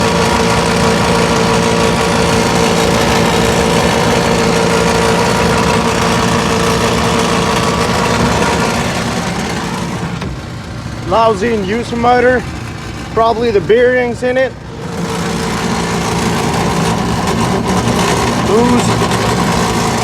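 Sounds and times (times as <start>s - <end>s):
rough motor running with tones: 0.0s - 20.0s.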